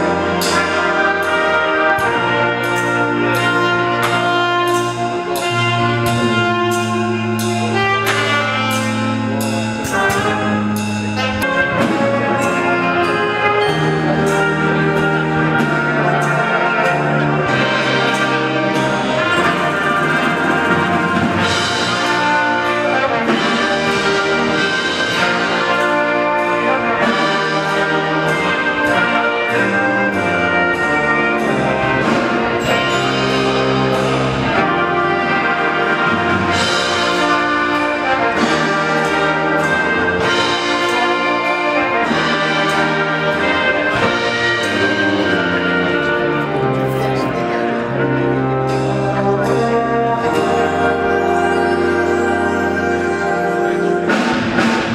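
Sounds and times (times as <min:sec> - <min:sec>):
military brass band playing: 0:00.0 - 0:54.9.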